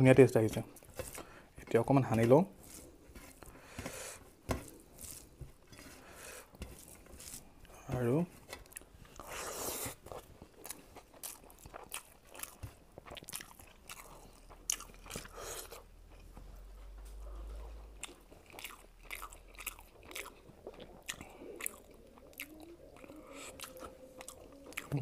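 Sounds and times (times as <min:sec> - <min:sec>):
person chewing: 0:02.3 - 0:16.3, 0:17.0 - 0:25.0.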